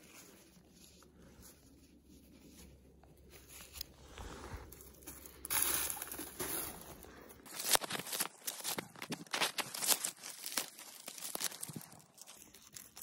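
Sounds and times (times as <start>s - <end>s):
fingers rustling seed fluff: 0.0s - 13.0s.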